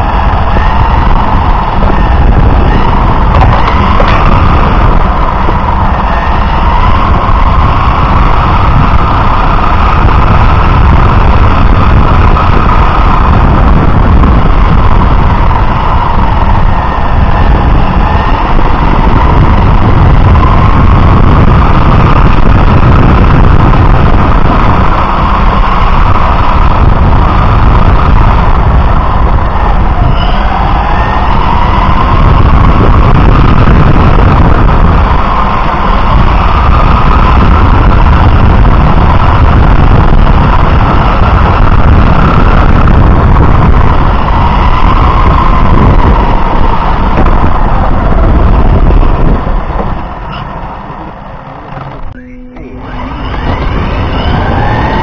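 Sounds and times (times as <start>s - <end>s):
motor and drivetrain whine: 0.0s - 55.0s
tyres rumbling on asphalt: 0.0s - 55.0s
wind on microphone: 0.0s - 55.0s.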